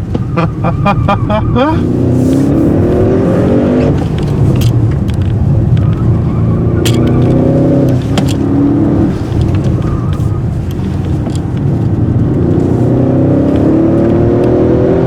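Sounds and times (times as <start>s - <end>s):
car engine under heavy throttle: 0.0s - 15.0s.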